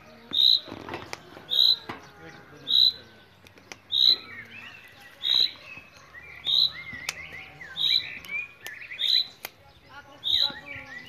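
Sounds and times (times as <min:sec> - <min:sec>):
loud high chirp: 0:00.1 - 0:11.0
warbling bird chirps: 0:00.3 - 0:00.8, 0:01.4 - 0:11.0.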